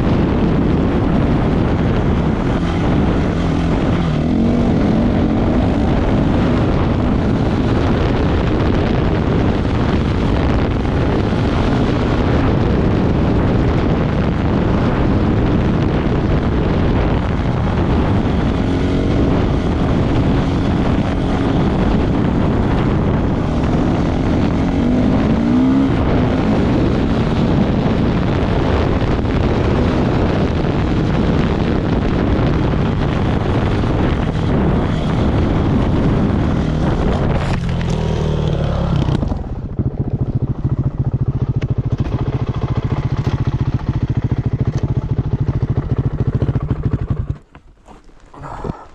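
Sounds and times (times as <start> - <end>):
motorcycle engine revving: 0.0 - 48.9
wind noise on microphone: 0.0 - 48.9.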